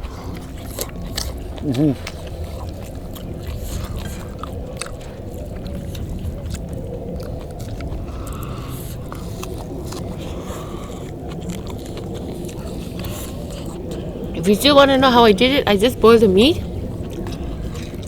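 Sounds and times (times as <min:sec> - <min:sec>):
chewing: 0:00.0 - 0:18.0
steady low rumble: 0:00.0 - 0:18.0.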